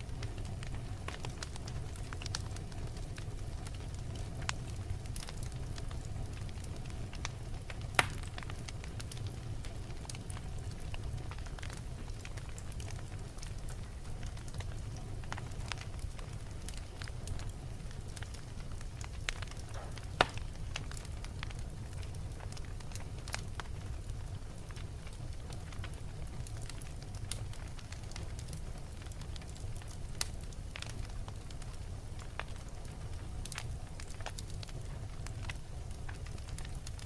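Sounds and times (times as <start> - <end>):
fire crackles and pop: 0.0 - 37.0
fire low rumble: 0.0 - 37.0.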